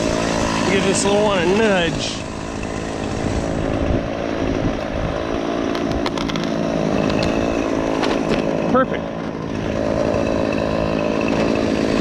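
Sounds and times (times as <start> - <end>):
small petrol engine idling: 0.0 - 12.0.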